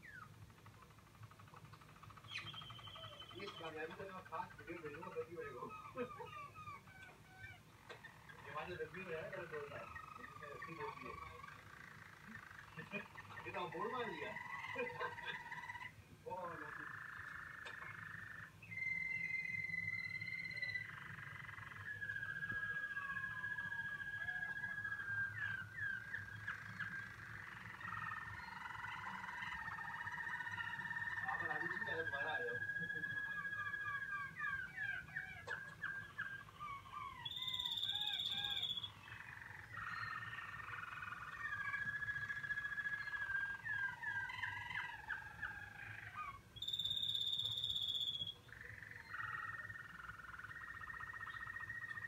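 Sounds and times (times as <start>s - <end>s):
canary singing: 0.0s - 52.0s.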